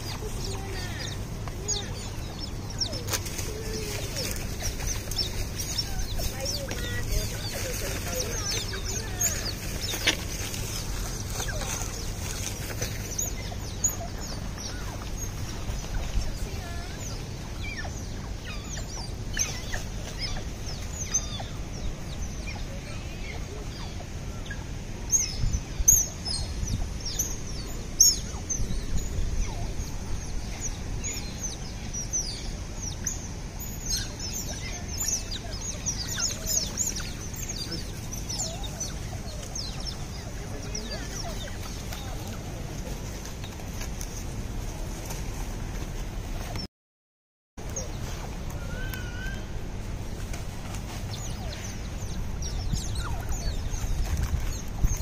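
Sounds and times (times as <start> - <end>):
otters chirping and squeaking: 0.0 - 24.0, 25.2 - 44.3, 51.1 - 55.0
low background noise: 0.0 - 46.7, 47.6 - 55.0.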